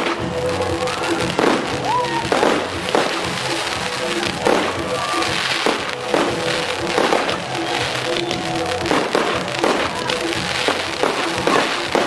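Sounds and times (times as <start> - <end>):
fireworks bangs and pops: 0.0 - 12.0
music playing: 0.0 - 12.0.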